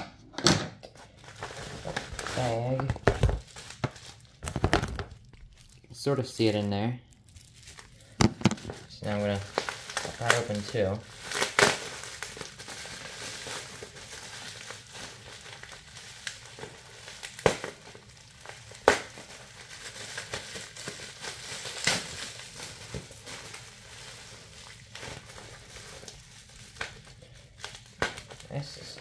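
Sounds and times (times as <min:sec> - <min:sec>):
plastic packaging crinkling: 0:01.0 - 0:29.0.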